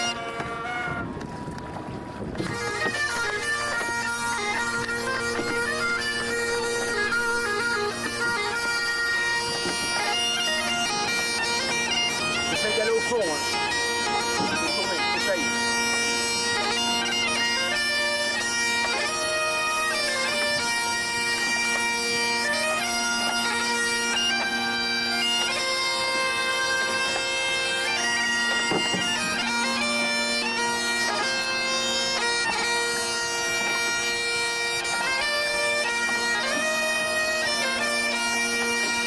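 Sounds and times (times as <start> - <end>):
bagpipe and bombarde playing: 0.0 - 39.0
bagpipe drone: 0.0 - 39.0.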